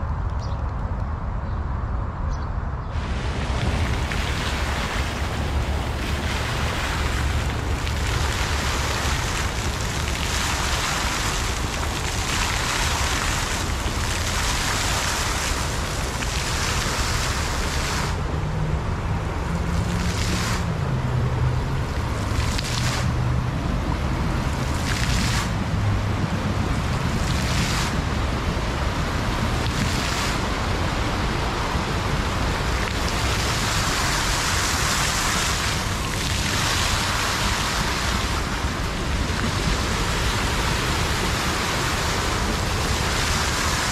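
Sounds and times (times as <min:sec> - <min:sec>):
water falling and splashing: 0:03.0 - 0:43.9.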